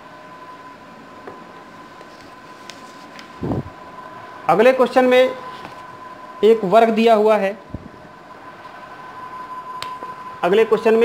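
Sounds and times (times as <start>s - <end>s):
thin steady whine: 0.0s - 11.0s.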